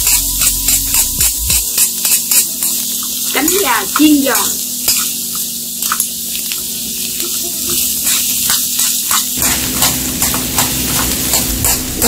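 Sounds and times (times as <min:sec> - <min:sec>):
chicken wings sizzling in wok: 0:00.0 - 0:12.0.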